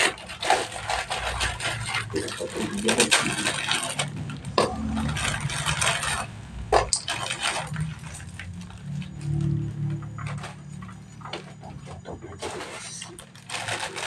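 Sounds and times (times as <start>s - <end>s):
dry noodles cracking: 0.0s - 11.8s, 12.8s - 14.0s
plastic packet crinkling: 0.0s - 14.0s.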